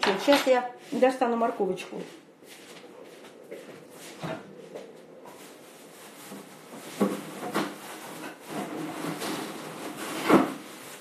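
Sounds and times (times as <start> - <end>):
rustling and scraping: 0.0 - 11.0.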